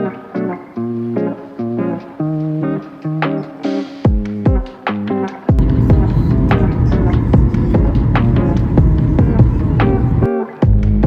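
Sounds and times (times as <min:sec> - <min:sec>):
plucked guitar melody over beat: 0:00.0 - 0:11.0.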